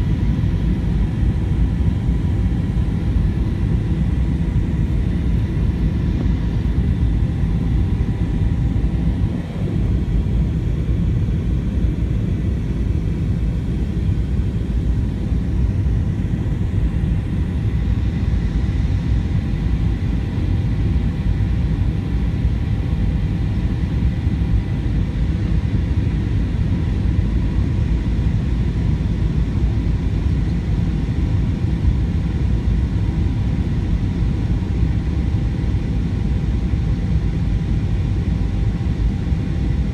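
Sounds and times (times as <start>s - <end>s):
aircraft engines rumbling: 0.0s - 39.9s
faint steady hums: 0.0s - 39.9s.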